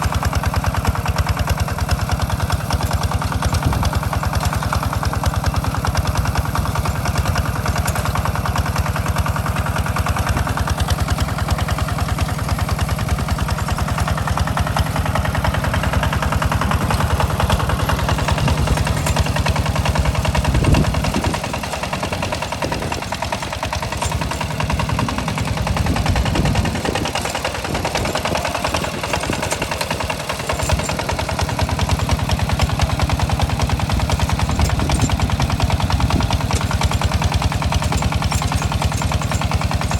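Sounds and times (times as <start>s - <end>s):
hand tractor engine chugging: 0.0s - 39.9s.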